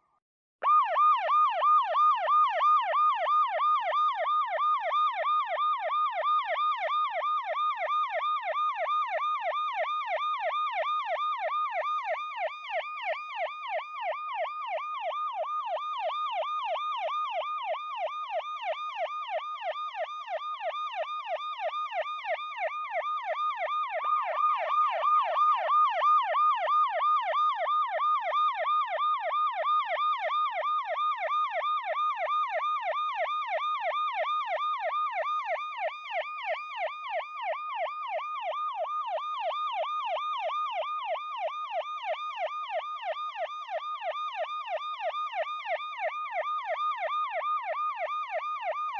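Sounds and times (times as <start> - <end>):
police siren yelping: 0.6 - 48.9.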